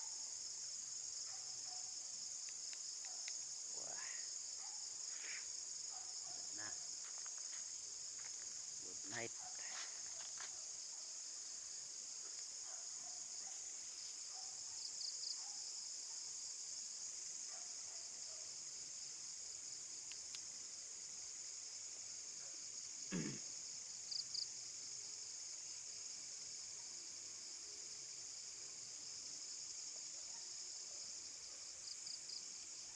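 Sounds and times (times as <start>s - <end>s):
crickets trilling: 0.0s - 32.9s.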